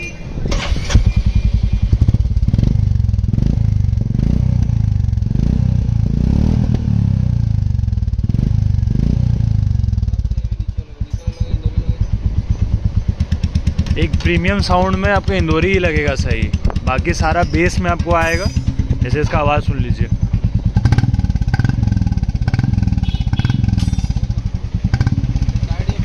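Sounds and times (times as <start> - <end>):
motorcycle engine running: 0.6 - 26.0.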